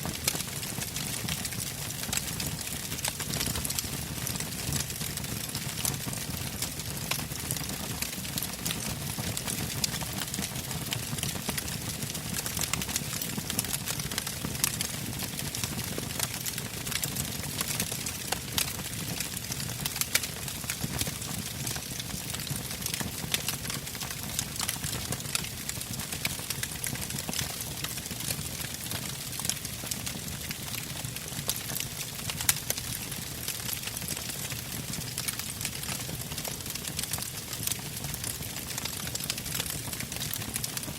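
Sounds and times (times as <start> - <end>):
fire burning: 0.0 - 10.5, 11.2 - 24.5, 25.2 - 30.6, 31.2 - 40.8
logs crackling and popping: 0.0 - 40.9.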